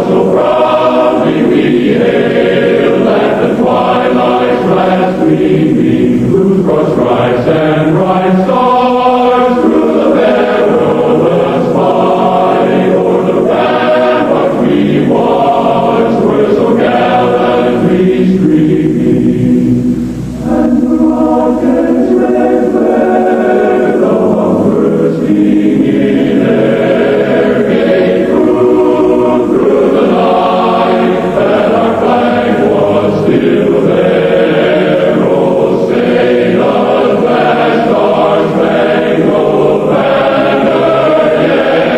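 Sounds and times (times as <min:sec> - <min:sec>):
choir singing an anthem: 0:00.0 - 0:41.9.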